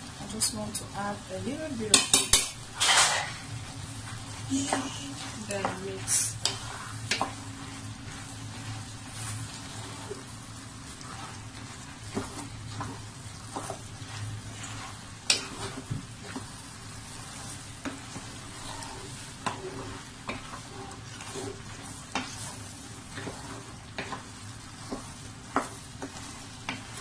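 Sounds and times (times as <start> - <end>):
food sizzling: 0.0 - 27.0
wooden spoon stirring food in pot: 0.0 - 27.0.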